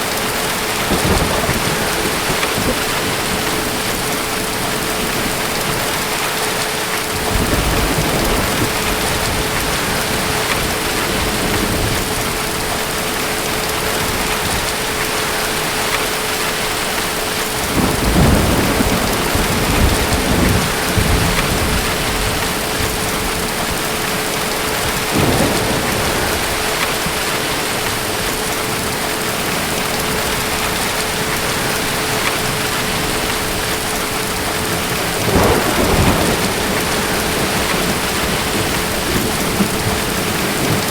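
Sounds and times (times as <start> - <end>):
steady rain: 0.0 - 40.9
thunder rumbling: 0.0 - 40.9.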